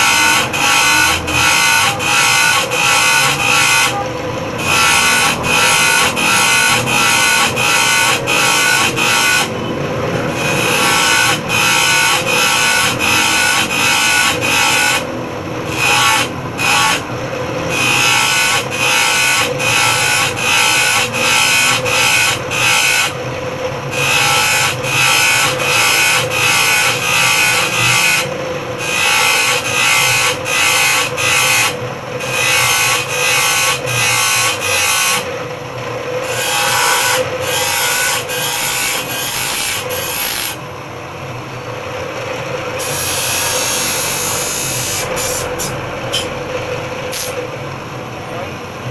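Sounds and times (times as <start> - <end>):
saw blade grinding on wheel: 0.0 - 35.4, 36.2 - 40.6, 42.8 - 46.4, 47.0 - 47.5
bench grinder motor running: 0.0 - 40.6.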